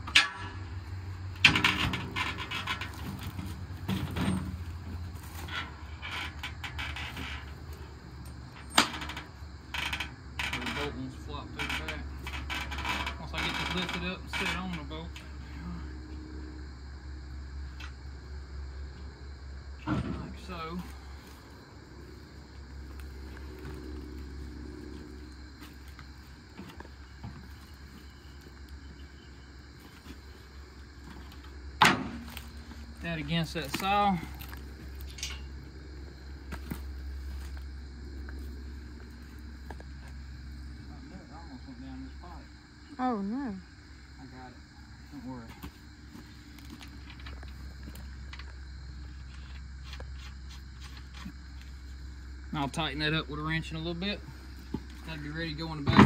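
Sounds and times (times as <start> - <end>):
wood and metal creaks and scrapes: 0.0 - 42.9, 44.0 - 56.0
steady low hum: 0.0 - 56.0.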